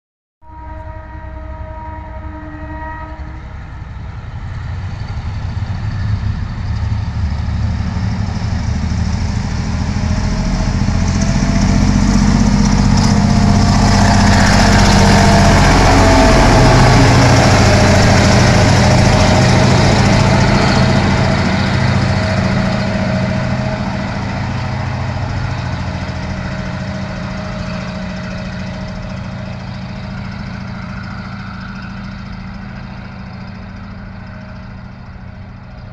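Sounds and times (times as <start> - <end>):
diesel locomotive engine drone: 0.4 - 35.9
wheels rumbling on rails: 2.8 - 35.9.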